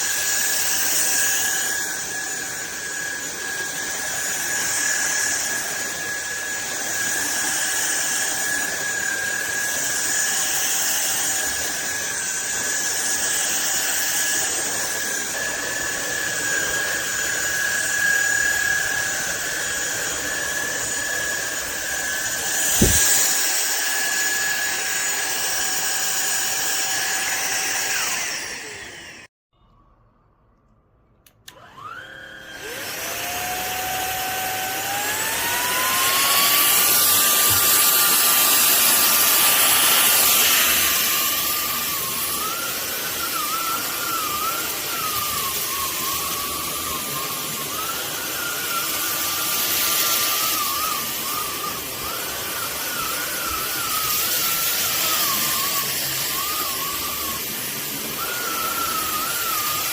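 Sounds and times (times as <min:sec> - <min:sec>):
vacuum cleaner motor whine: 0:00.0 - 0:29.3, 0:31.5 - 0:59.9.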